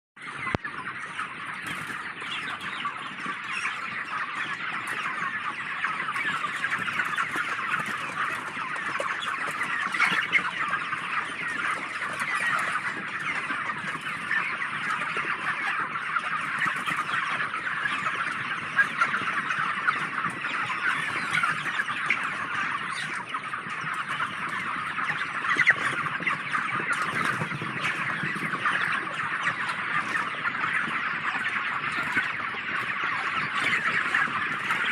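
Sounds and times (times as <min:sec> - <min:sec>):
flock of chickens calling: 0:00.2 - 0:34.9.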